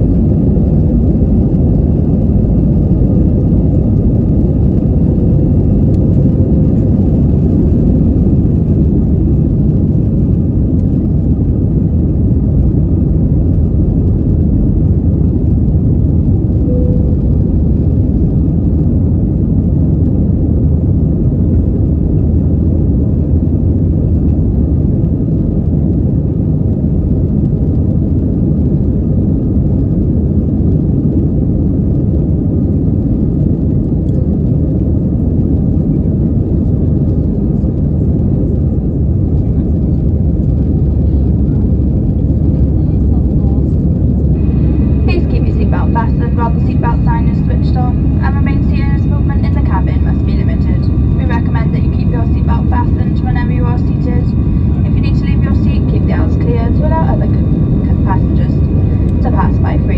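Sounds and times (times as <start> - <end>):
faint steady whine: 0.0 - 59.9
jet engine rumble inside cabin: 0.0 - 59.9.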